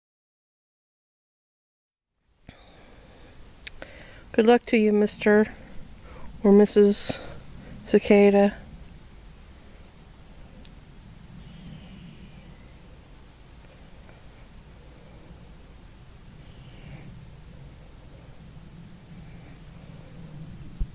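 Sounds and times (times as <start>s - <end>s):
insects buzzing: 2.2s - 20.9s.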